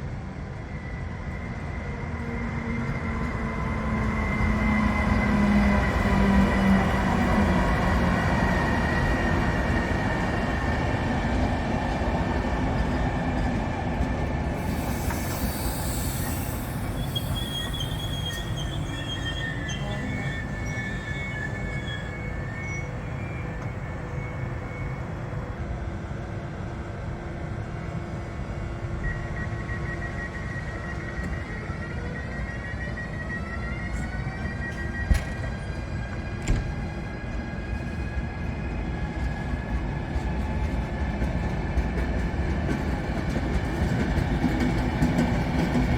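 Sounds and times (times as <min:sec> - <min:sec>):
train rumbling on rails: 0:00.0 - 0:45.9
train wheels squealing: 0:00.1 - 0:26.4, 0:27.6 - 0:45.9.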